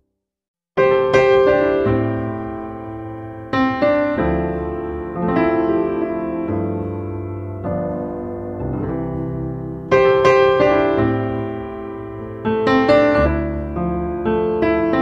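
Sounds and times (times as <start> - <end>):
slow piano chords: 0.8 - 15.0.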